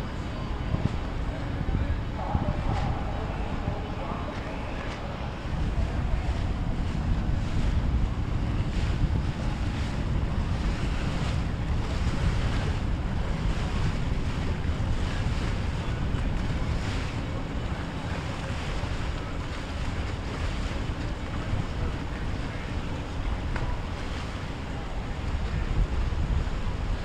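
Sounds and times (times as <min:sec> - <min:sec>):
boat engines running: 0:00.0 - 0:27.0
water washing along hull: 0:00.0 - 0:27.0
wind noise on microphone: 0:00.0 - 0:27.0.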